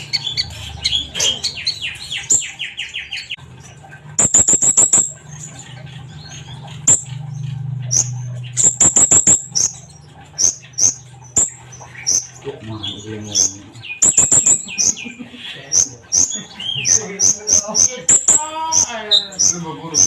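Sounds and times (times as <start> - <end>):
bird singing high chirps and trills: 0.0 - 20.0.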